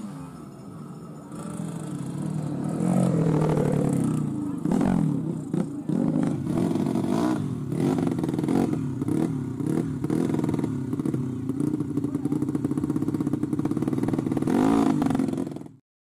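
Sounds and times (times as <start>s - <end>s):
dirt bike engines revving: 0.0s - 15.8s.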